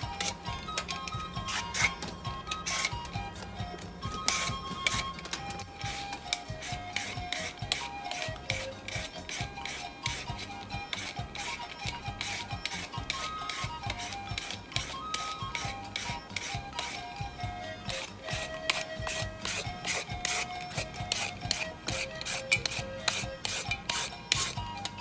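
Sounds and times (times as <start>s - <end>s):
background music: 0.0s - 25.0s
papaya being shredded by hand: 4.1s - 17.1s, 17.8s - 25.0s.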